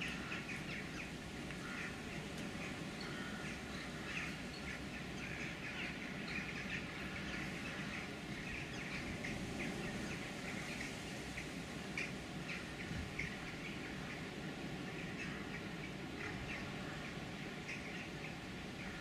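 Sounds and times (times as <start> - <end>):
crows calling: 0.0 - 19.0.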